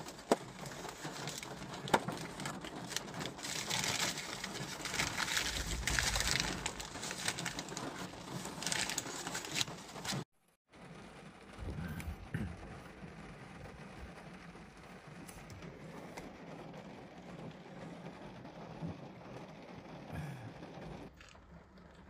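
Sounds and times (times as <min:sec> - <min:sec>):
rain pattering on car roof: 0:00.0 - 0:22.0.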